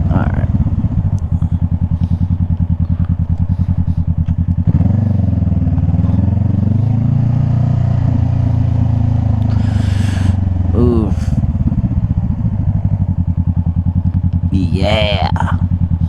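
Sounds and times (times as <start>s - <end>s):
motorcycle engine pulling away: 0.0s - 16.0s.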